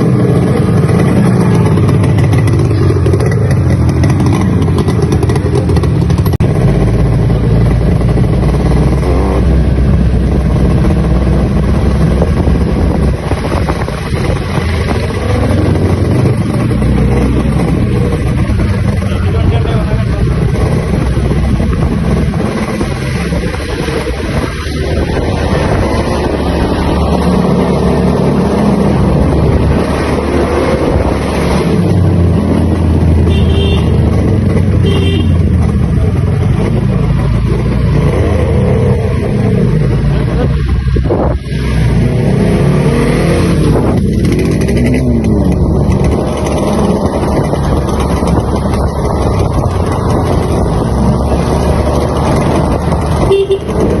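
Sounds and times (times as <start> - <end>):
two-stroke motorcycle engine revving: 0.0 - 54.0.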